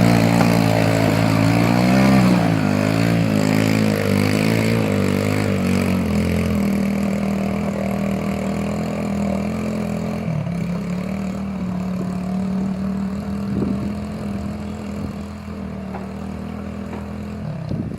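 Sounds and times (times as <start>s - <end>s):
atv engine running: 0.0s - 17.9s.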